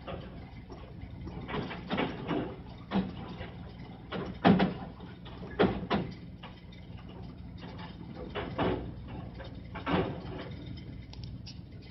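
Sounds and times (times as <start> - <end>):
hydraulic suspension clanks: 0.0 - 11.9
steady low hum: 0.0 - 11.9.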